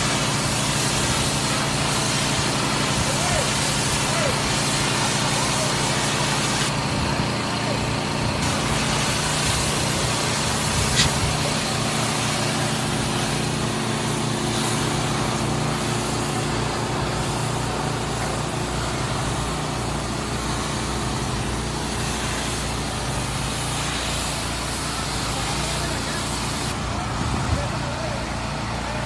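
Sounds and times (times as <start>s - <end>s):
pressure washer running: 0.0s - 29.0s.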